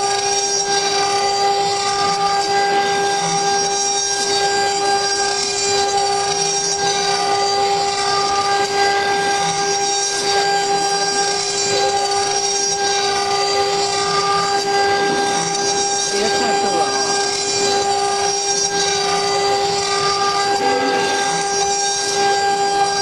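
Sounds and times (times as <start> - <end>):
router spindle whine: 0.0 - 23.0.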